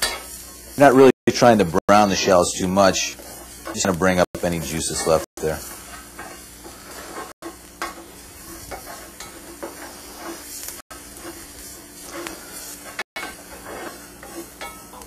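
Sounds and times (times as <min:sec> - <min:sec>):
spoon scraping a pan: 0:00.0 - 0:00.8, 0:02.2 - 0:15.0
shallots sizzling in a pan: 0:00.0 - 0:15.0.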